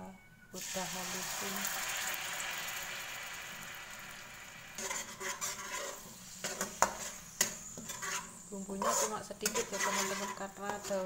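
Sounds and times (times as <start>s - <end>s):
paste sizzling in hot oil: 0.6s - 11.0s
spatula scraping wok: 1.0s - 11.0s.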